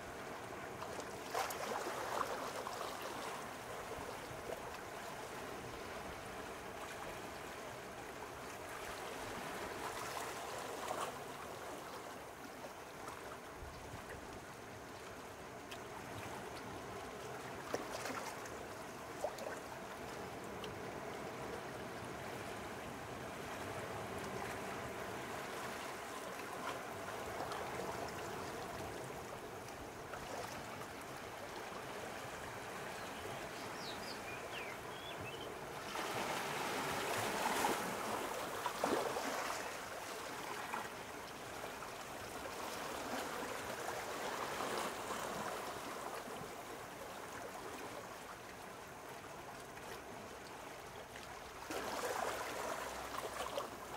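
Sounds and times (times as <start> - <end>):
small waves lapping at shore: 0.0 - 53.9.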